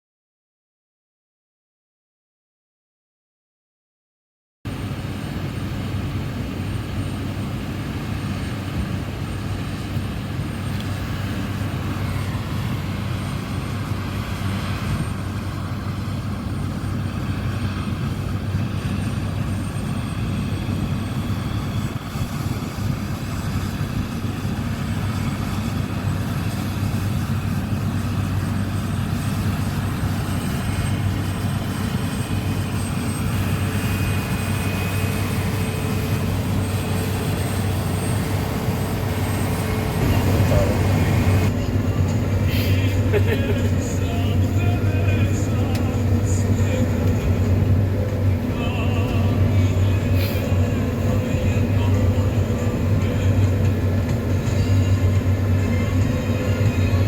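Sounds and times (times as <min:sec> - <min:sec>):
combine harvester engine drone: 0:04.7 - 0:57.0.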